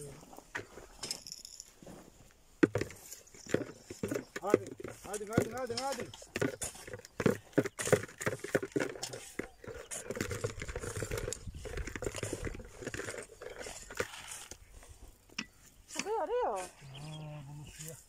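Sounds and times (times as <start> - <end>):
hand hoe scraping stony soil: 0.0 - 18.0.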